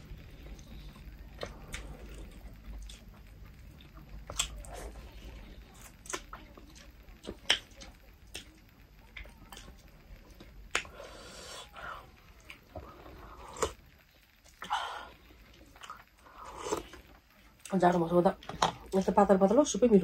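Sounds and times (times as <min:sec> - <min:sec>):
chewing: 0:00.3 - 0:17.7.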